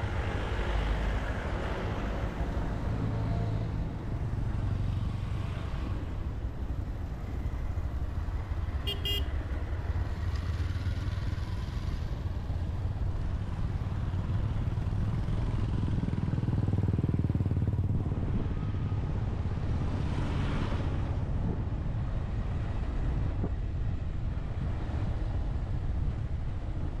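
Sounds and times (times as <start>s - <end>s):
road and wind noise: 0.0s - 27.0s.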